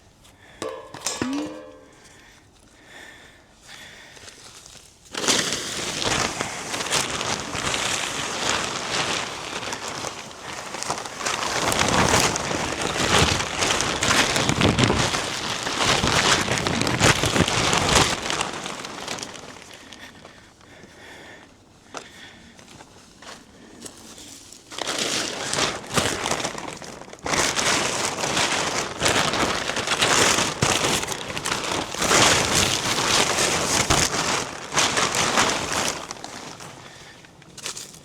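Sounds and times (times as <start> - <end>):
plastic tarp crinkling and rustling: 4.2 - 21.0, 22.6 - 38.0.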